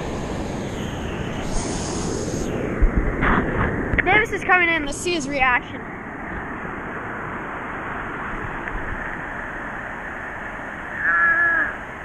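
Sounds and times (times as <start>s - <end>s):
wind on microphone: 0.0s - 10.1s.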